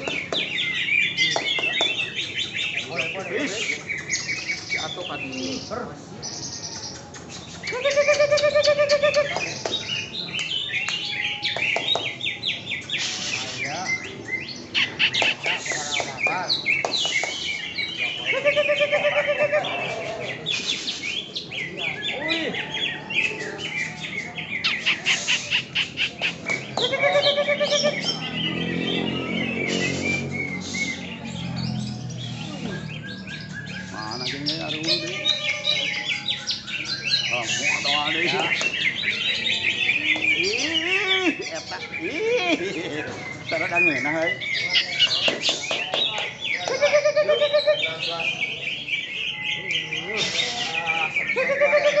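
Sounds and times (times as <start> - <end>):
bird chirps: 0.0 - 52.0
birds singing in chorus: 0.0 - 52.0.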